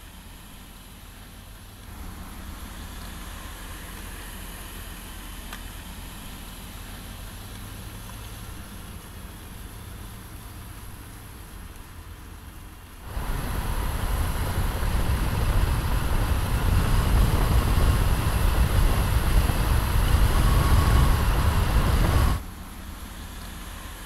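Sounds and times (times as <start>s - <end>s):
vehicles approaching on road: 0.0s - 24.0s.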